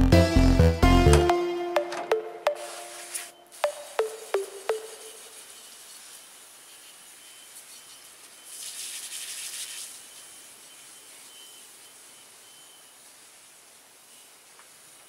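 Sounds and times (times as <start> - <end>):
faint steady hiss: 2.5 - 15.0.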